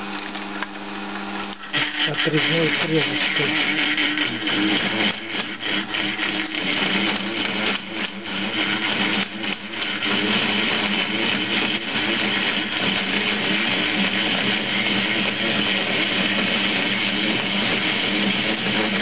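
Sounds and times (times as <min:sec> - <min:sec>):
mill motor humming: 0:00.4 - 0:19.0
saw cutting metal: 0:01.7 - 0:19.0.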